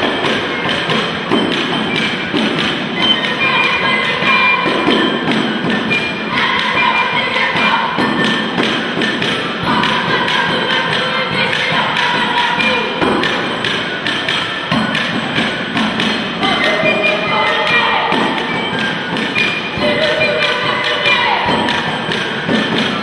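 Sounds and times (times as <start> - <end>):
folk dance music: 0.0 - 23.0
steady thumping drum beat: 0.0 - 23.0.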